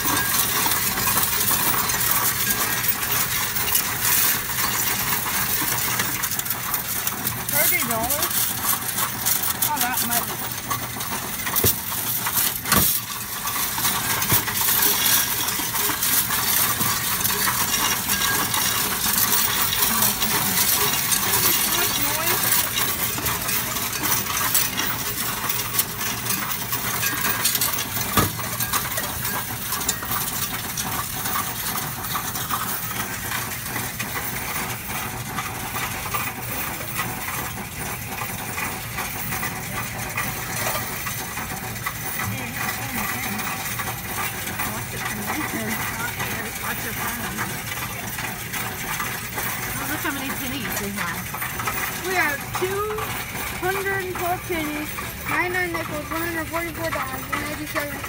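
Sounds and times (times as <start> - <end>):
coins clinking and rattling: 0.0 - 58.0.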